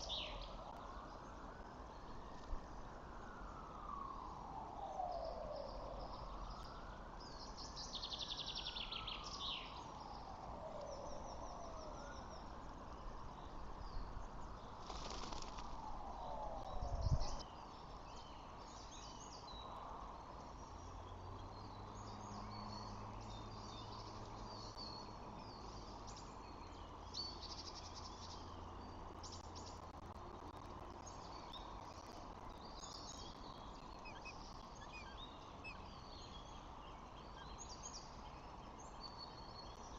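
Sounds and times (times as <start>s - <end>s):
small birds chirping: 0.0s - 3.6s, 5.2s - 16.1s, 16.7s - 39.9s.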